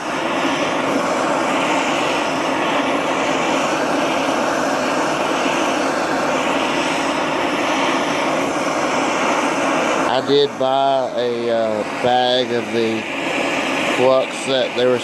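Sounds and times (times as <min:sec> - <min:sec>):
gas torch flame rushing: 0:00.0 - 0:15.0.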